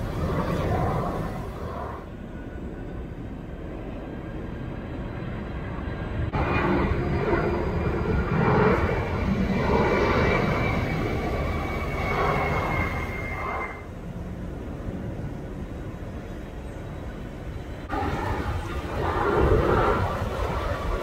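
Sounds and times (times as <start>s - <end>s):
distant jet rumble: 0.0s - 21.0s
jet engines roaring on approach: 0.0s - 21.0s.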